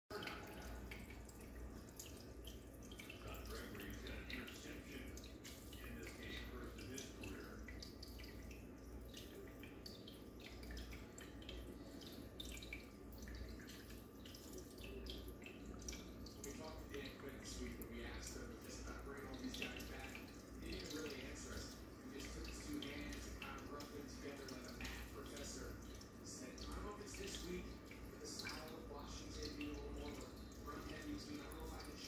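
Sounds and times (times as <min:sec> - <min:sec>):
low steady hum: 0:00.1 - 0:32.0
water trickling and dripping: 0:00.1 - 0:32.0.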